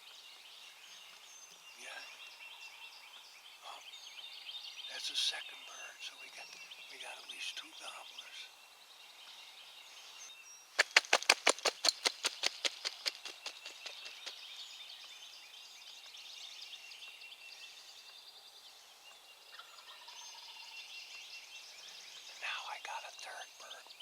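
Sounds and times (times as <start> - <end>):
songbird chatter: 0.0 - 24.0.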